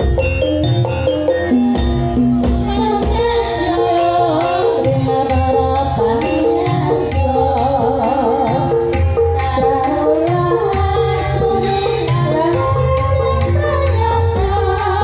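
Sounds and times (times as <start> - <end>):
repeating pitched notes: 0.0 - 14.3
drum beats: 0.0 - 15.0
women singing: 2.6 - 15.0.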